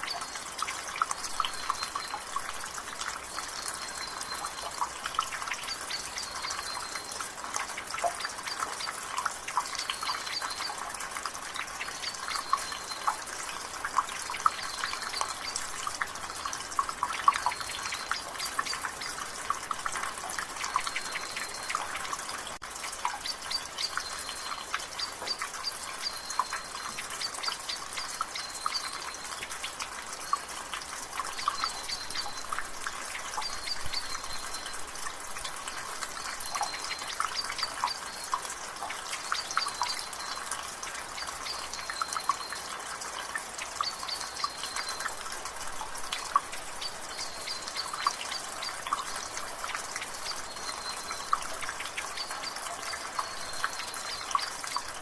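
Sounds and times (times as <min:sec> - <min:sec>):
rain drizzling: 0:00.0 - 0:55.0
water dripping from gutter: 0:00.0 - 0:55.0.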